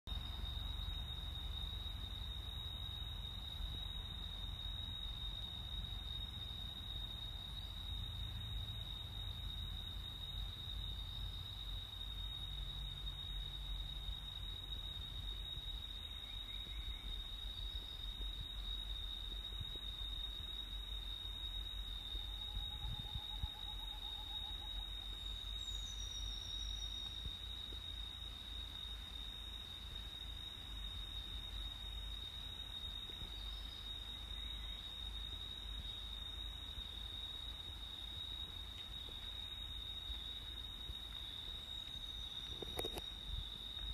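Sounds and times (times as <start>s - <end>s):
high-pitched insect drone: 0.1s - 43.9s.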